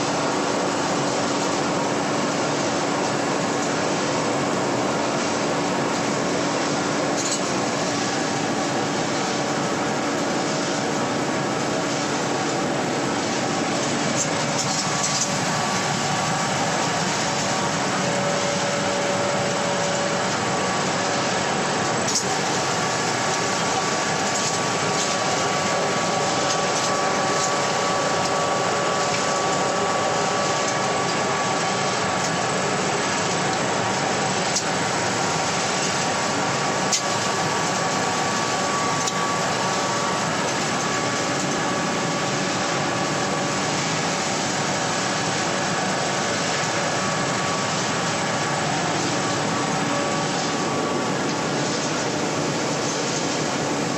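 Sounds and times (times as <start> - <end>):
pellet mill running: 0.0 - 53.9.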